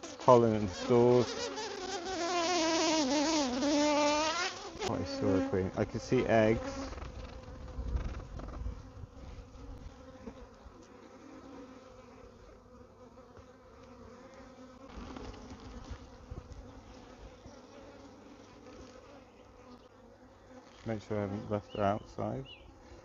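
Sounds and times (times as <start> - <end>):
honeybees humming: 0.0 - 23.0.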